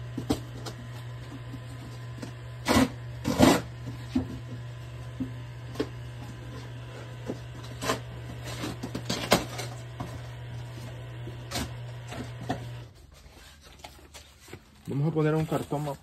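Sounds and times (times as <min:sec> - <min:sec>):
washer drain pump humming: 0:00.0 - 0:13.0.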